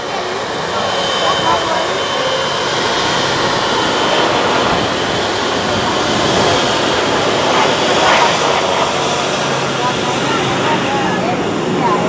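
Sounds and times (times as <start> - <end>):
jet engines at taxi power: 0.0 - 12.0.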